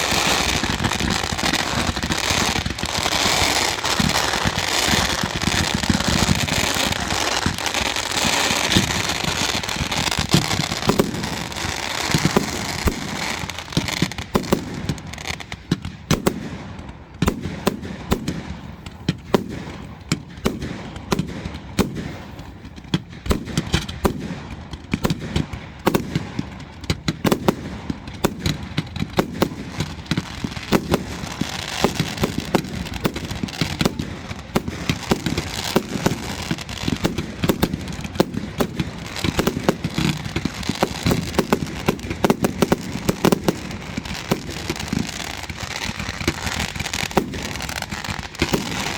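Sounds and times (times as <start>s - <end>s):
fireworks crackling hiss: 0.0s - 48.9s
fireworks cracks and bangs: 0.0s - 48.9s.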